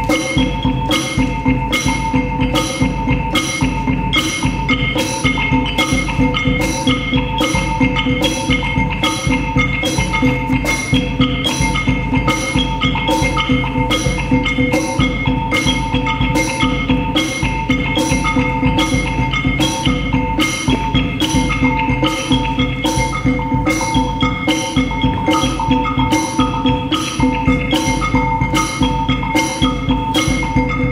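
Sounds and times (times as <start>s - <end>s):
ringing pitched percussion tones: 0.0s - 30.9s
sharp percussion strikes: 0.0s - 30.9s.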